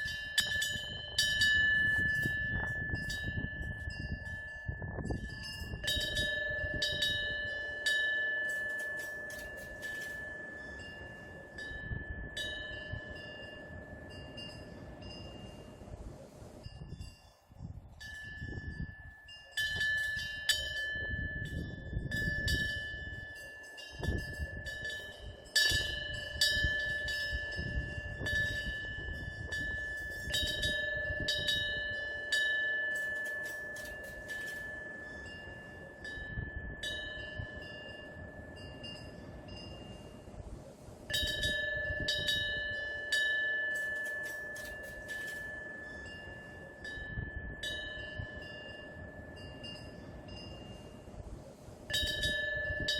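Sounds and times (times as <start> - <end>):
wind bell ringing: 0.0 - 52.9.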